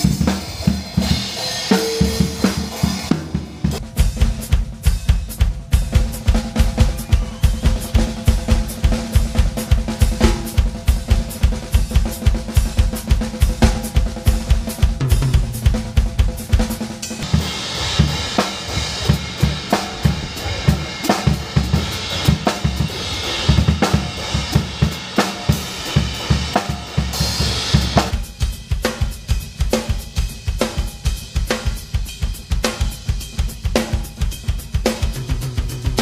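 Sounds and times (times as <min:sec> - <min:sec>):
bass drum strokes: 0:00.0 - 0:29.8, 0:35.0 - 0:36.0
cymbal wash: 0:00.0 - 0:36.0
snare drum: 0:00.0 - 0:36.0.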